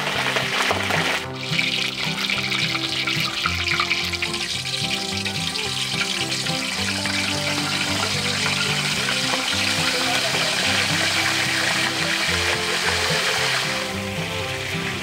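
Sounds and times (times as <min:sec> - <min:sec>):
background music: 0:00.0 - 0:15.0
meat sizzling in hot oil: 0:00.0 - 0:15.0.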